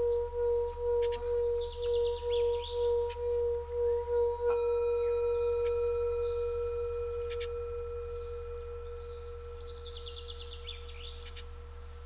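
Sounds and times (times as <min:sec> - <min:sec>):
birds chirping: 0:00.0 - 0:12.0
singing bowl ringing: 0:00.0 - 0:12.0.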